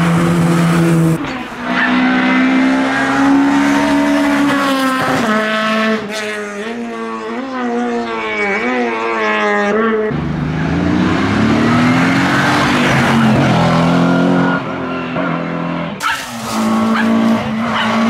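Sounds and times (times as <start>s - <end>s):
race car engine revving: 0.0s - 18.0s
rally car engine at high revs: 0.0s - 18.0s.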